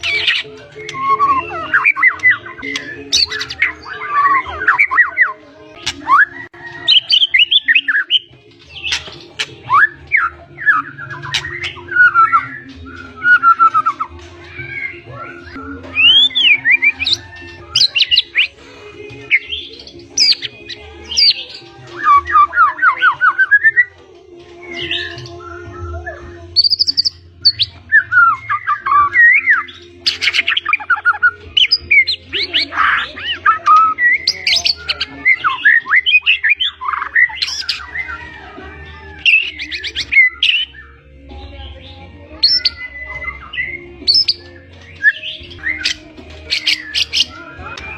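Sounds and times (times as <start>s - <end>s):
songbird singing whistles and trills: 0.0s - 47.9s.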